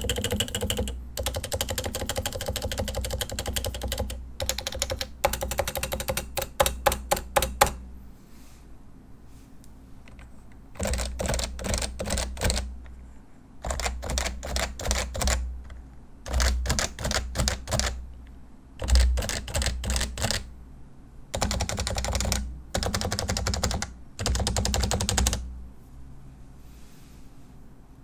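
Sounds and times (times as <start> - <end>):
keyboard typing: 0.0 - 8.0, 10.0 - 25.6.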